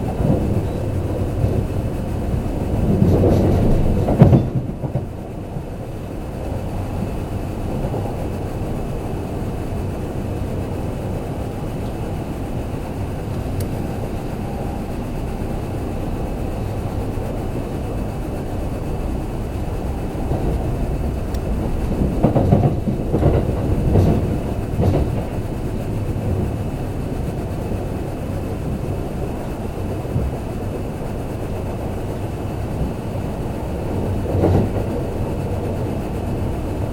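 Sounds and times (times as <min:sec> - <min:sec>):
train wheels clacking: 0:00.0 - 0:36.9
train wheels rumbling on rail: 0:00.0 - 0:36.9.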